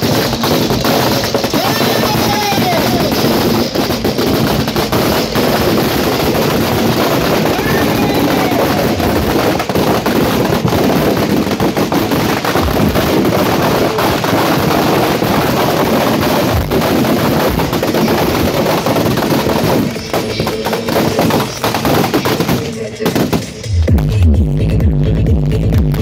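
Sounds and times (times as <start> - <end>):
firecrackers crackling: 0.0 - 24.2.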